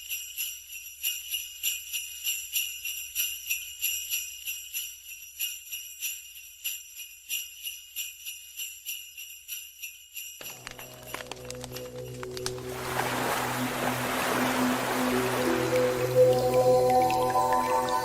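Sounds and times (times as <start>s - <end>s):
sleigh bells jingling: 0.0s - 18.0s.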